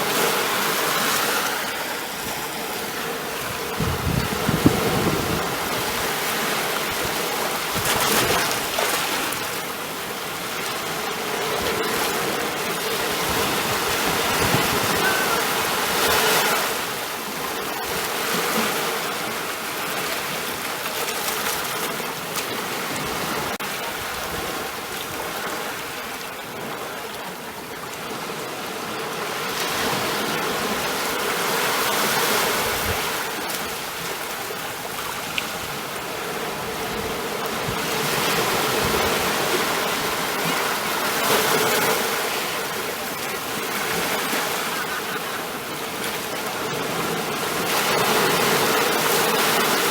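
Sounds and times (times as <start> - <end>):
ocean waves washing on shore: 0.0 - 49.9.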